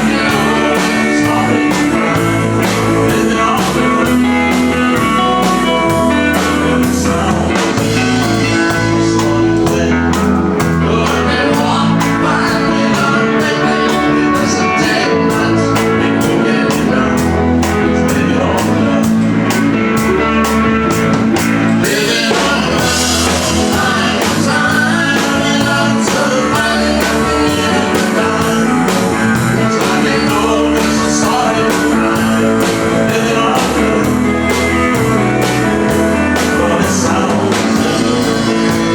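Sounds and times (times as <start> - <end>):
live country-rock band: 0.0 - 38.9.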